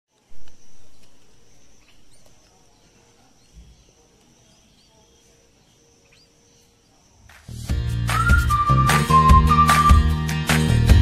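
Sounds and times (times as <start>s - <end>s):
bird chirps: 0.3s - 9.9s.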